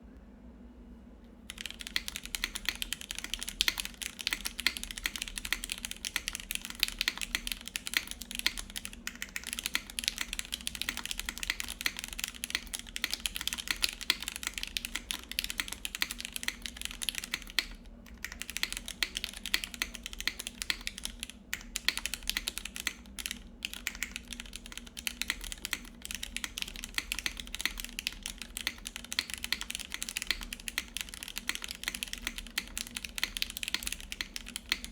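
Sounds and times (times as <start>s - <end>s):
fast mechanical keyboard typing: 1.5s - 34.9s.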